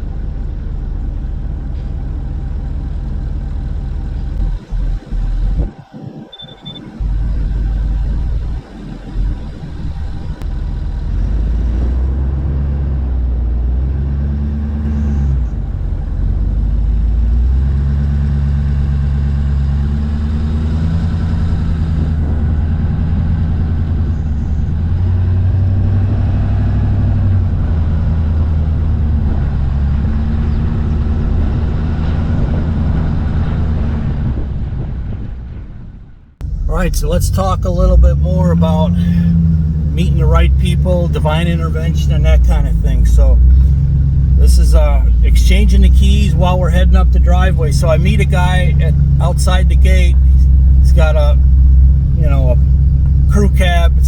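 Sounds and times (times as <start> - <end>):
tyres on gravel road: 0.0 - 35.6, 36.4 - 54.0
truck engine drone: 0.0 - 54.0.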